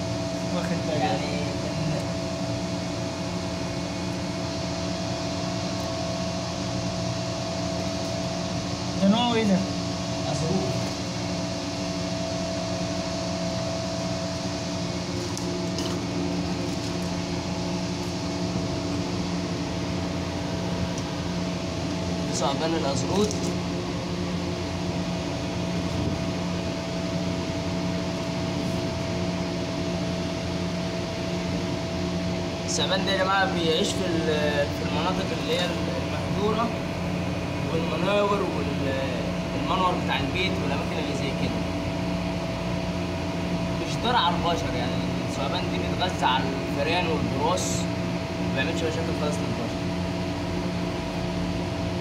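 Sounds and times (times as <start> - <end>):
machine hum with held tones: 0.0 - 52.0.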